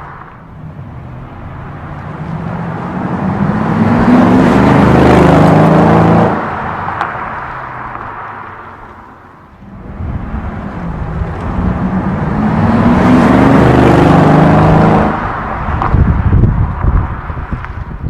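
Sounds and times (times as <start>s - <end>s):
car exhaust driving past: 0.0s - 17.8s.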